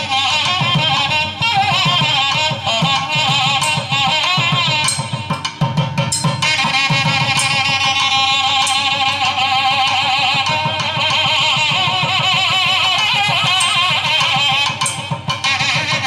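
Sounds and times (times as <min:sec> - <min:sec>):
drum strokes: 0:00.0 - 0:16.0
reed instrument melody: 0:00.0 - 0:16.0.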